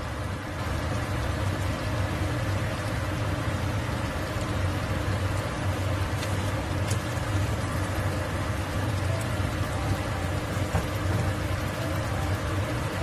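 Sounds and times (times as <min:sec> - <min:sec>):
sauce bubbling in a frying pan: 0:00.0 - 0:13.0.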